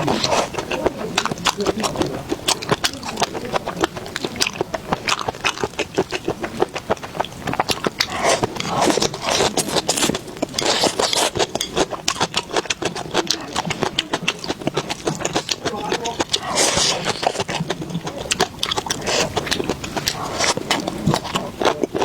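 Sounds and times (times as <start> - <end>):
person chewing and mouth smacking: 0.0 - 22.0.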